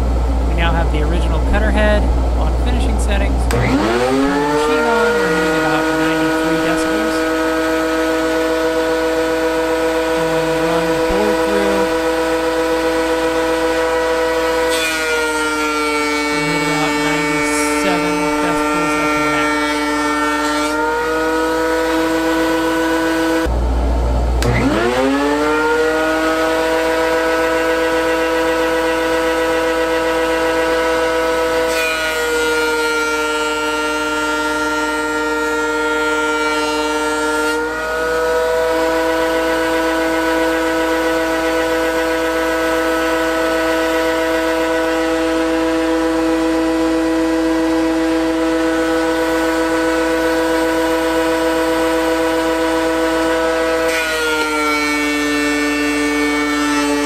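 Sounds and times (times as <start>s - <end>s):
shop vacuum running: 0.0s - 57.0s
thickness planer whining: 0.0s - 57.0s.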